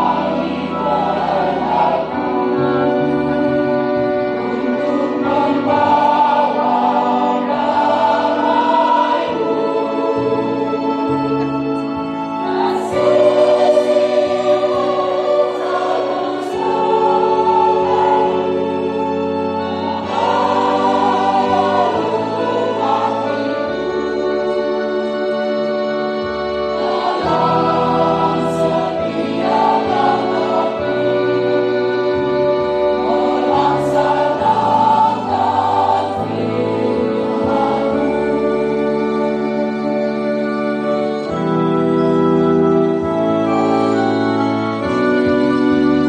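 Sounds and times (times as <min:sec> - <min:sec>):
choir singing a hymn: 0:00.0 - 0:46.0.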